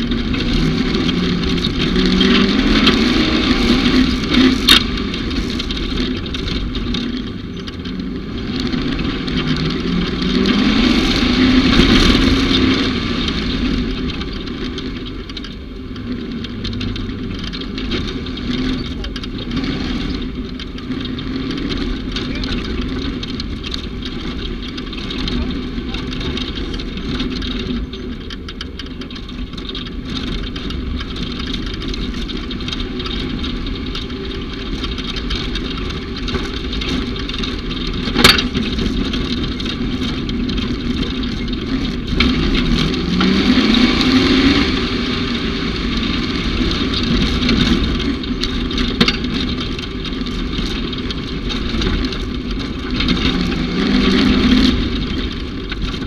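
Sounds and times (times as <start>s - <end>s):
rushing noise: 0.0s - 56.0s
vehicle engine revving: 0.0s - 56.0s.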